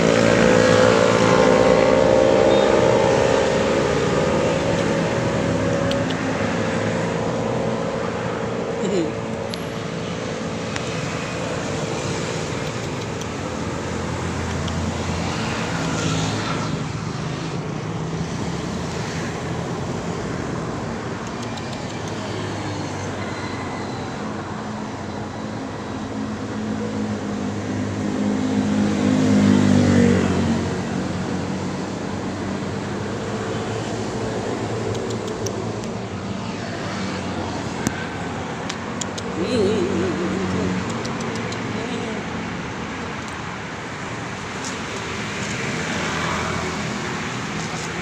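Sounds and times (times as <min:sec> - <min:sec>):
vehicle passing close: 0:00.0 - 0:21.3, 0:26.6 - 0:48.0
vehicle engines running: 0:00.0 - 0:48.0.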